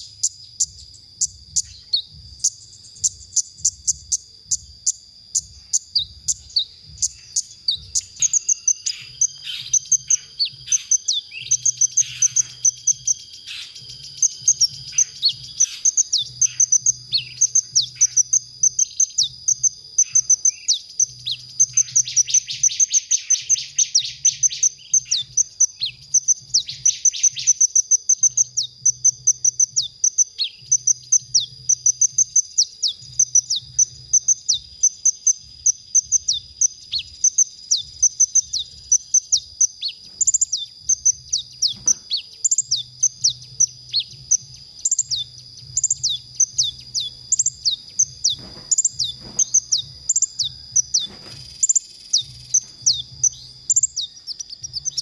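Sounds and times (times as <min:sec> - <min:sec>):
bird singing high chirps: 0:00.0 - 0:55.0
steady high-pitched whine: 0:00.0 - 0:55.0.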